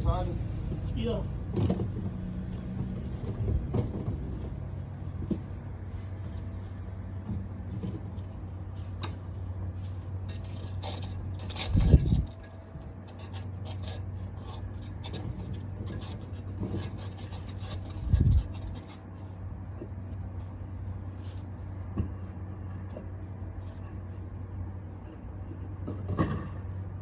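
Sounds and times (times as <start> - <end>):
steady low hum: 0.0 - 27.0
scraping on pavers and gravel: 5.2 - 27.0.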